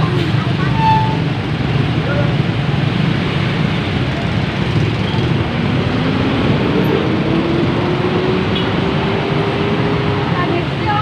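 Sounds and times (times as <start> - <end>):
road traffic noise: 0.0 - 11.0
vehicle engine speeding up: 1.4 - 10.7.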